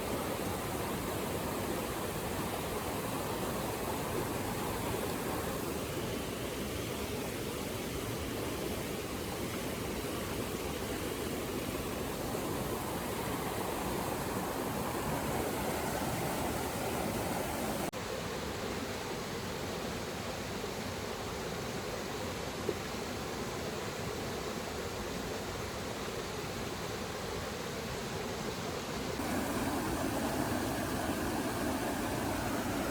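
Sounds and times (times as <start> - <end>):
rushing water: 0.0 - 32.9.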